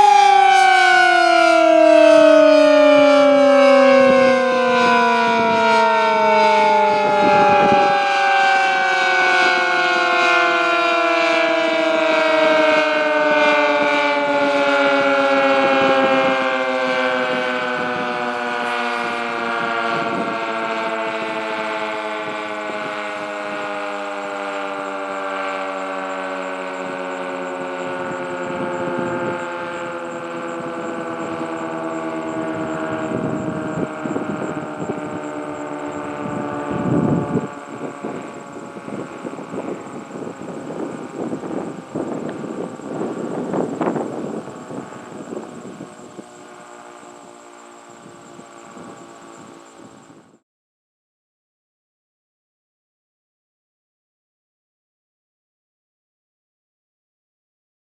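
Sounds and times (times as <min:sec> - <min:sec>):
warning siren winding down: 0:00.0 - 0:50.4.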